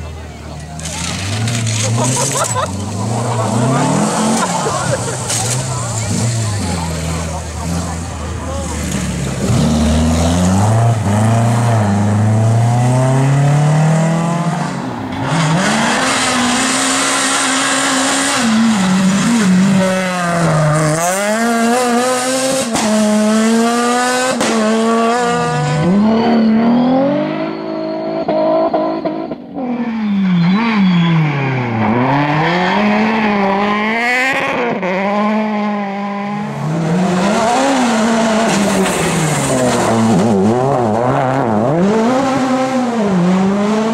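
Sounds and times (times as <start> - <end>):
cars passing by: 0.0 - 43.9
rally car engines revving: 0.0 - 43.9.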